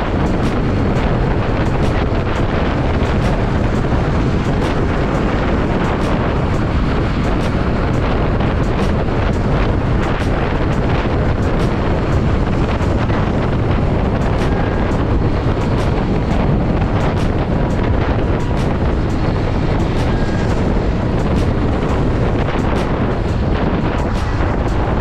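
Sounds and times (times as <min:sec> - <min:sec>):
motorcycle running: 0:00.0 - 0:25.0
wind buffeting microphone: 0:00.0 - 0:25.0.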